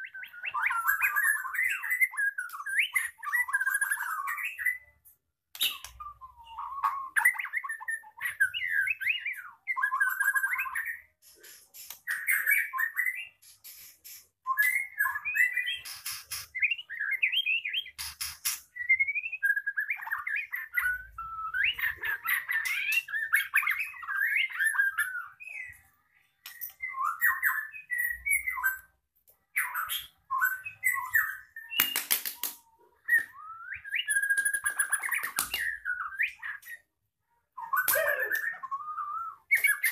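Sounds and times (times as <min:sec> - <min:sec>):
bird singing whistled phrases: 0:00.0 - 0:04.9, 0:05.6 - 0:11.1, 0:12.1 - 0:13.4, 0:14.4 - 0:18.0, 0:18.6 - 0:25.8, 0:26.5 - 0:28.9, 0:29.6 - 0:36.9, 0:37.5 - 0:39.9.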